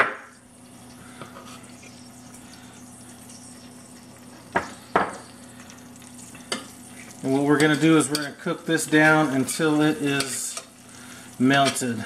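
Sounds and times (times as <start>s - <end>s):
faint hiss from pan: 0.1s - 12.0s.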